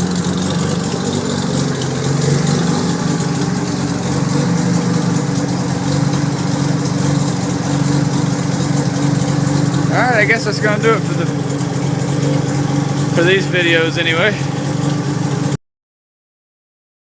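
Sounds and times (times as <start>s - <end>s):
rotary engine idling: 0.0s - 15.6s.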